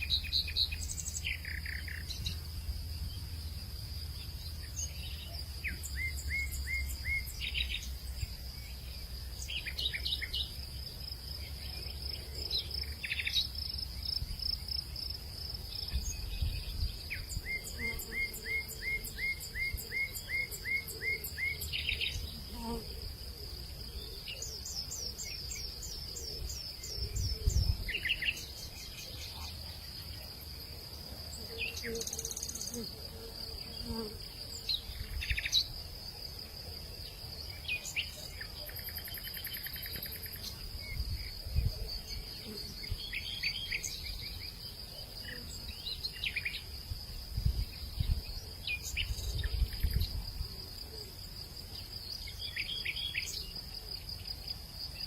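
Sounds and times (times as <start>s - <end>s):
crickets droning: 0.0s - 55.0s.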